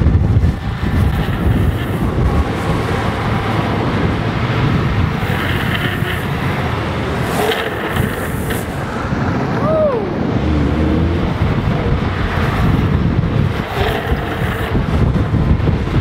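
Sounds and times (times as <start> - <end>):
skateboard wheels on asphalt: 0.0 - 16.0
wind rushing: 0.0 - 16.0.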